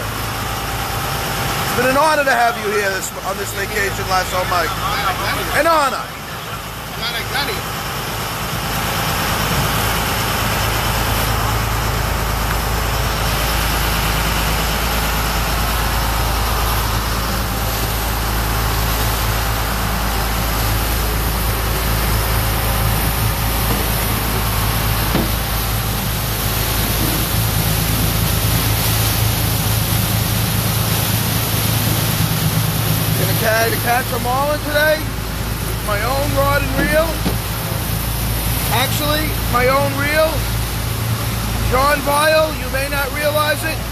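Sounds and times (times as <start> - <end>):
boat engine droning: 0.0 - 43.9
rush of wind and water: 0.0 - 43.9.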